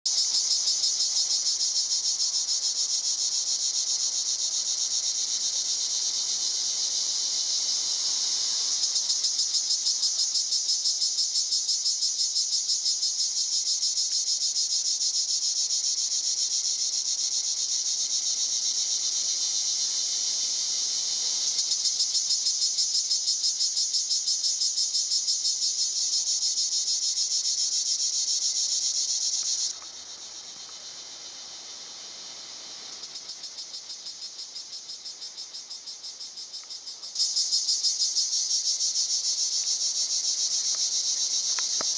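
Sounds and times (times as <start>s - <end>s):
cicada buzzing: 0.1s - 41.9s.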